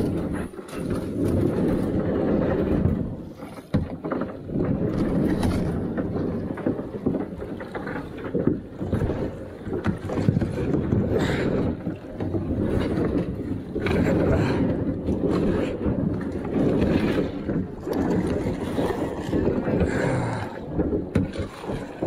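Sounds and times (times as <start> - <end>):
river water: 0.0 - 22.0
wind rumbling on microphone: 0.0 - 22.0.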